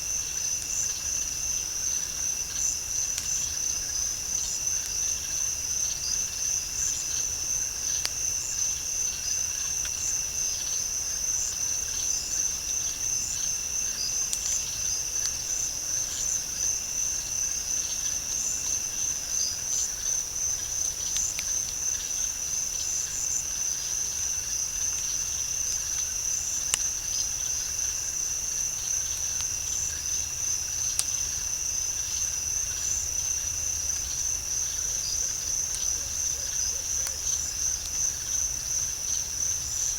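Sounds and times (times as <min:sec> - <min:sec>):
crickets trilling: 0:00.0 - 0:39.9
lower insect trill: 0:00.0 - 0:39.9.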